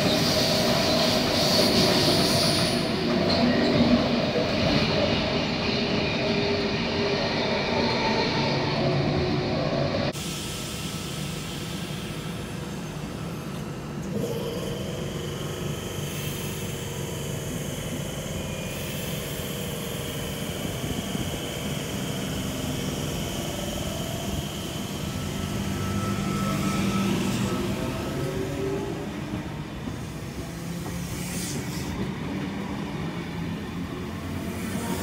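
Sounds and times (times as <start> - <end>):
low train hum: 0.0 - 35.0
train wheels rumbling on rail: 0.0 - 35.0.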